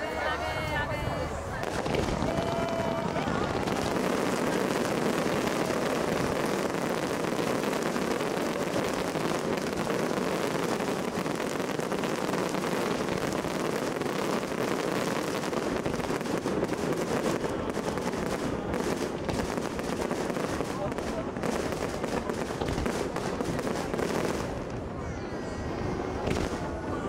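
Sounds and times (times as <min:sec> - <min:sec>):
fireworks crackling and popping: 0:01.3 - 0:25.1, 0:26.1 - 0:27.0.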